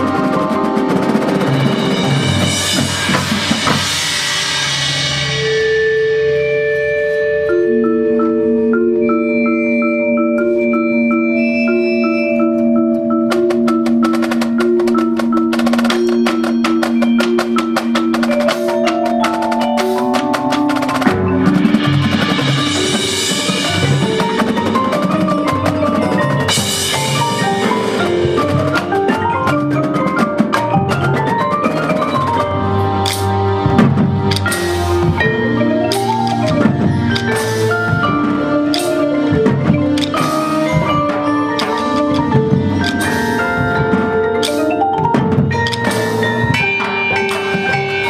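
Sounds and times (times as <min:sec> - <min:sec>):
mallet percussion melody: 0:00.0 - 0:48.0
marching band music: 0:00.0 - 0:48.0.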